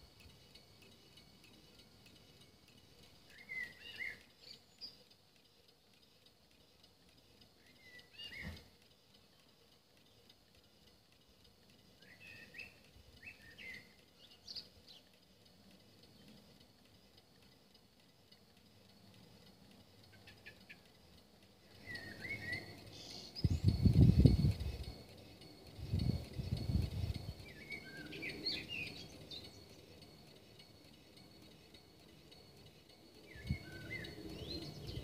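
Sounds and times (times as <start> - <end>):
light ticks: 0.0 - 35.0
faint bird chirps: 0.3 - 10.9, 11.6 - 35.0.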